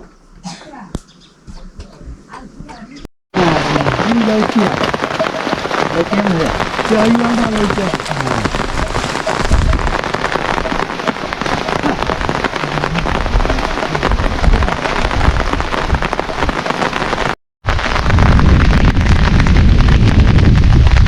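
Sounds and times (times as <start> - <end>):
heavy rain pattering: 3.4 - 21.0.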